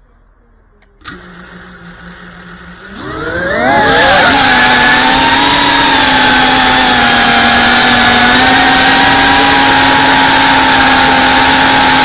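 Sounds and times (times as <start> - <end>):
drone motors whining: 0.9 - 12.0.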